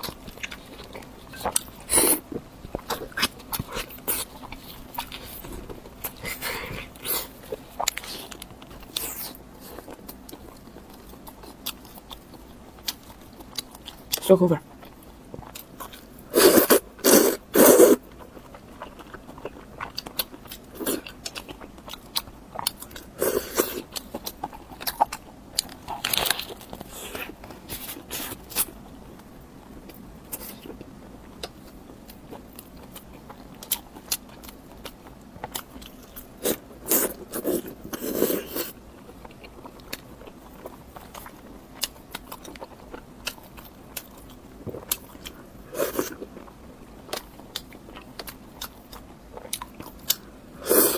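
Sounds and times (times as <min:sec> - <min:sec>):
crunchy bites and chewing: 0:00.0 - 0:50.9.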